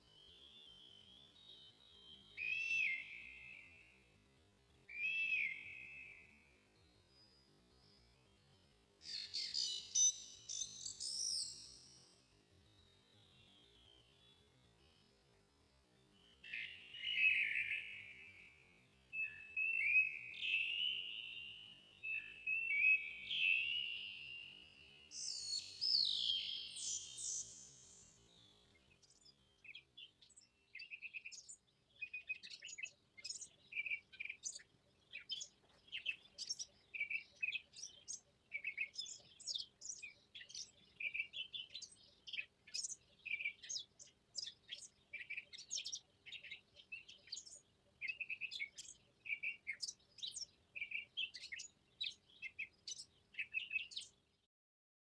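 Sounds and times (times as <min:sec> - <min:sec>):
songbirds chirping and trilling: 0:00.0 - 0:54.5.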